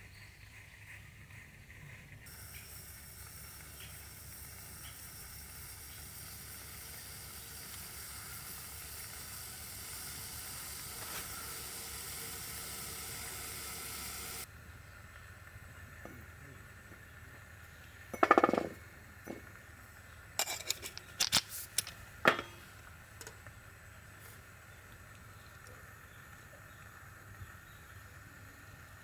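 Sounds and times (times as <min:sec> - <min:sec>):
steady hiss: 0:00.9 - 0:29.0.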